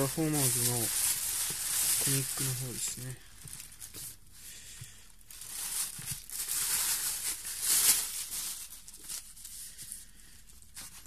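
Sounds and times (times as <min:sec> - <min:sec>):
plastic bag rustling: 0:00.0 - 0:04.2, 0:04.8 - 0:11.0.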